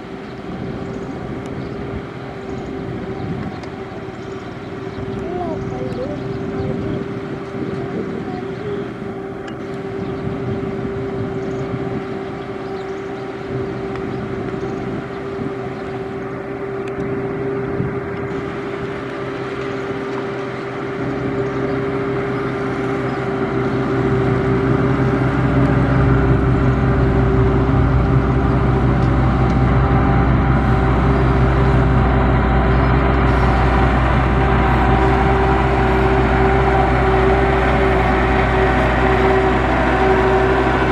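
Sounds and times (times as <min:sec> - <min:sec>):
diesel machinery engine: 0:00.0 - 0:40.9
steady whining tone: 0:00.0 - 0:40.9.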